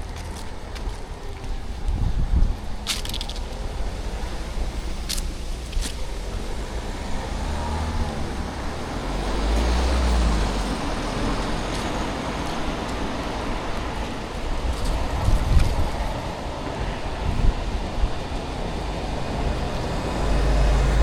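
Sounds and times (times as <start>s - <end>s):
road traffic rumble: 0.0s - 21.0s
vehicle passing: 3.5s - 21.0s.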